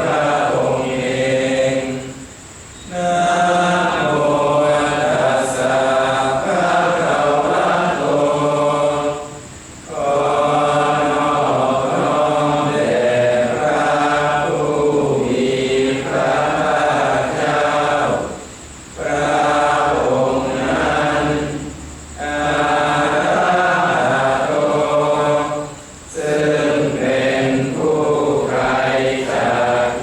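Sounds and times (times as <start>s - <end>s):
group chanting in unison: 0.0s - 30.0s.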